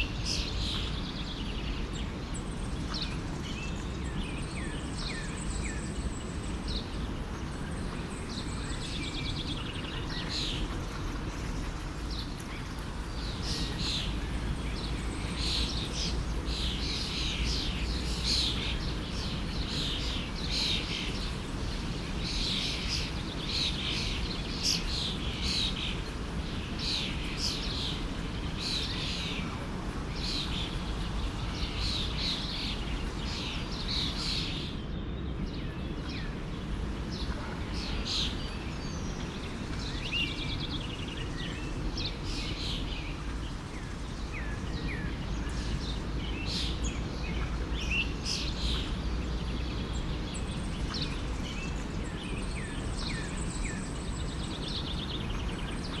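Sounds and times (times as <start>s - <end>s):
small birds chirping: 0.0s - 56.0s
forest stream flowing: 4.1s - 34.7s, 35.7s - 56.0s.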